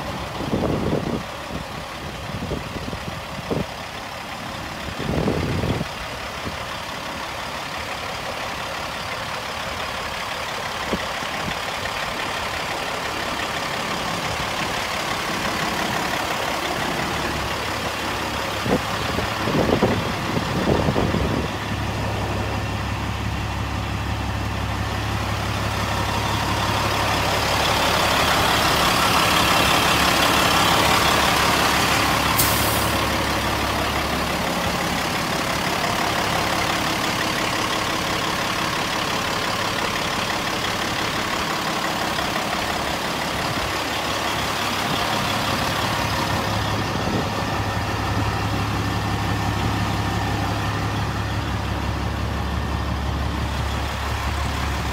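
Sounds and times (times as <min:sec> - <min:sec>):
diesel truck engine idling: 0:00.0 - 0:54.9.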